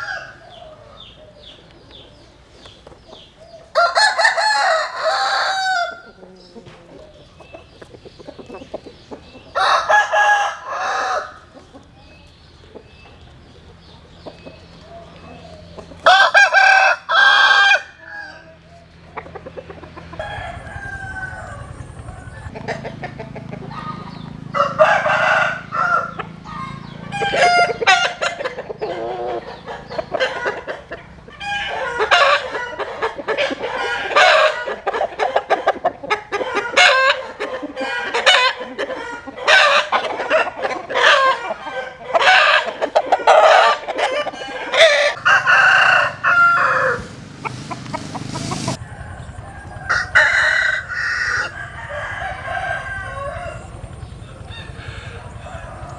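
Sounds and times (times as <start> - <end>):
chickens clucking: 0.0 - 55.9
roosters crowing: 0.0 - 55.9.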